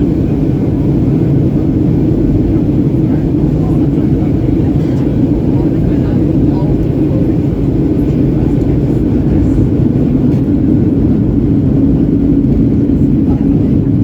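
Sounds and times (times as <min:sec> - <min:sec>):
airplane cabin airflow rush: 0:00.0 - 0:14.0
jet engine drone: 0:00.0 - 0:14.0.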